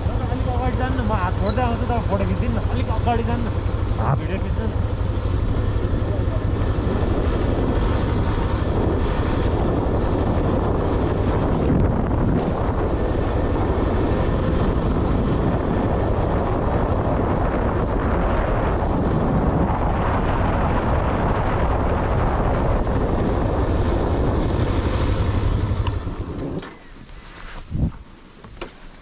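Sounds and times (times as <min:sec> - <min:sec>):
wind rushing over microphone: 0:00.0 - 0:28.1
road noise from moving vehicle: 0:00.0 - 0:29.0.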